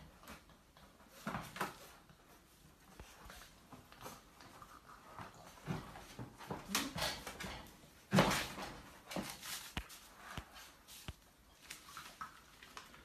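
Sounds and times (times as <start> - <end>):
puppies moving about and playing: 0.0 - 13.0
puppies scuffling: 0.0 - 13.0.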